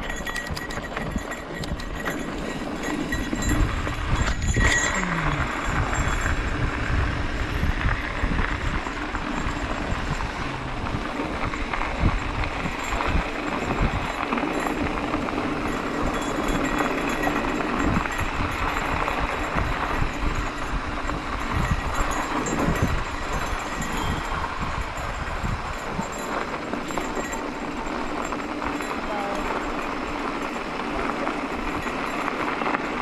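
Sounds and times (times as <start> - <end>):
bike clattering over bumps: 0.0 - 33.0
bike tyres rolling on dirt: 0.0 - 33.0
wind buffeting microphone: 0.0 - 33.0.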